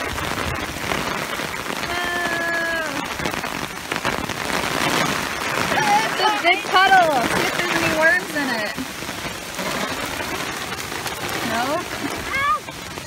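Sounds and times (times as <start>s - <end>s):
heavy rain on pavement: 0.0s - 13.0s
rain on an umbrella: 0.0s - 13.0s.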